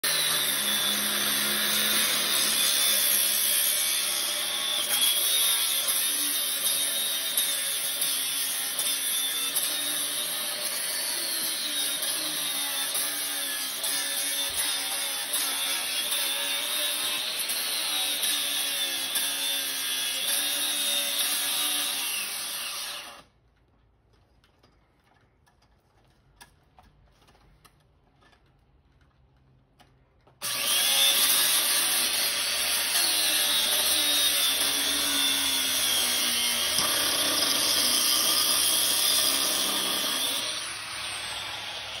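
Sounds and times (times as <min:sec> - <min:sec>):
angle grinder cutting metal fence: 0:00.0 - 0:23.3, 0:30.4 - 0:42.0.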